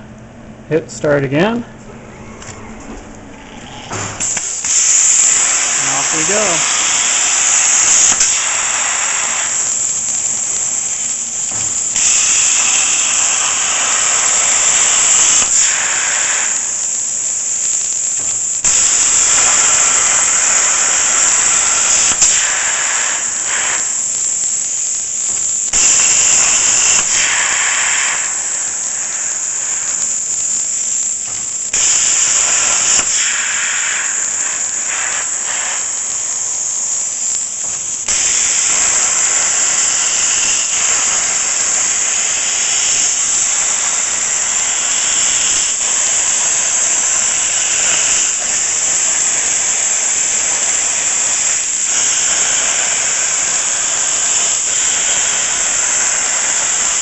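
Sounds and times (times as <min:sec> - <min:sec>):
plasma torch hissing: 0:02.4 - 0:57.0.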